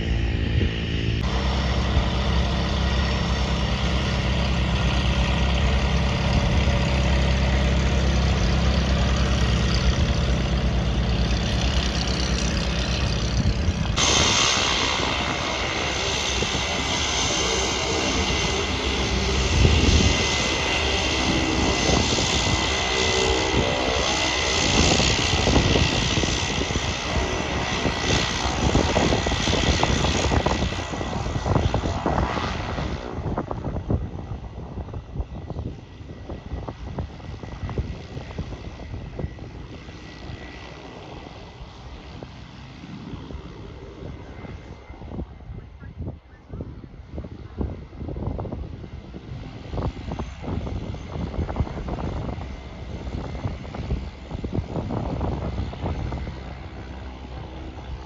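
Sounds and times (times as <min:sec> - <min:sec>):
propeller airplane engine: 0:00.0 - 0:58.0.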